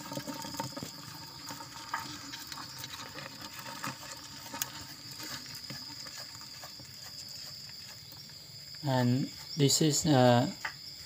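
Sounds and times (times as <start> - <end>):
insects scratching and ticking: 0.0 - 11.0.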